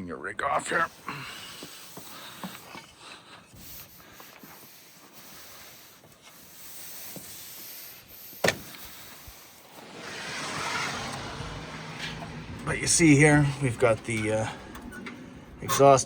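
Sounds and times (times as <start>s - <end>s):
faint rubbing and scraping: 0.7s - 16.0s.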